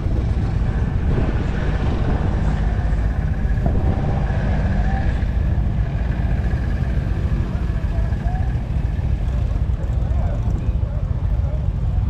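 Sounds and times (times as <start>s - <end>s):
wind buffeting microphone: 0.0s - 9.8s
faint distant voices: 2.3s - 12.0s.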